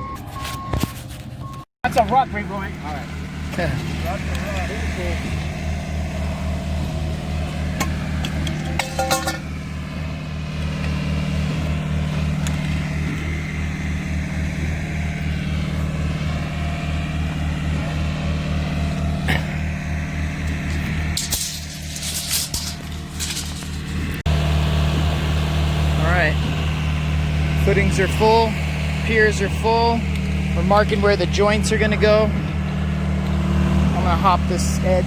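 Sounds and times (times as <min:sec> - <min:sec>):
concrete pump diesel engine running: 0:00.0 - 0:35.0.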